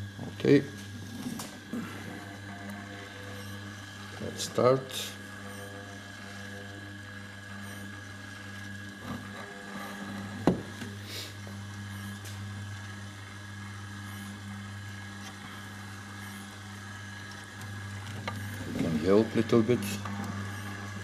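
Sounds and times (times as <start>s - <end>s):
dough mixer motor humming: 0.0s - 21.0s.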